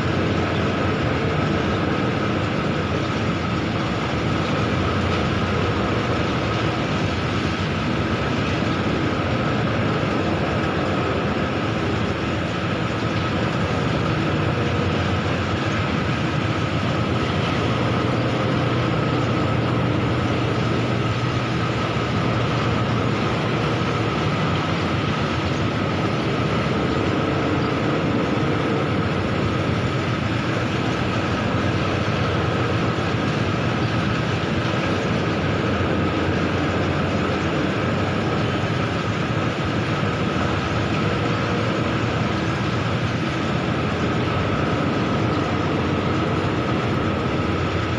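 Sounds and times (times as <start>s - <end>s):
heavy machinery running: 0.0s - 47.9s.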